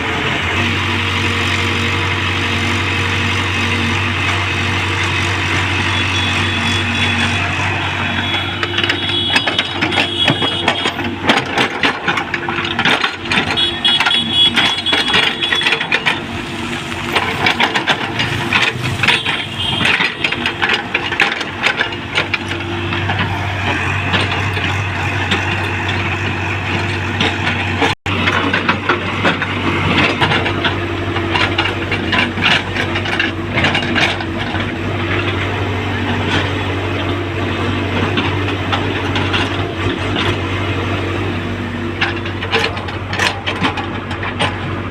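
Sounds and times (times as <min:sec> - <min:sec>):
excavator diesel engine: 0:00.0 - 0:44.9
metallic clanks and rattles: 0:08.1 - 0:44.9.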